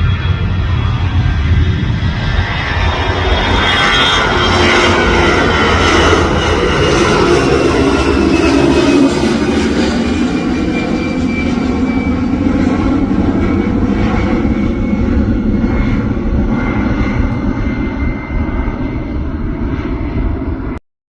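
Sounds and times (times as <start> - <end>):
jet engines running: 0.0 - 20.8.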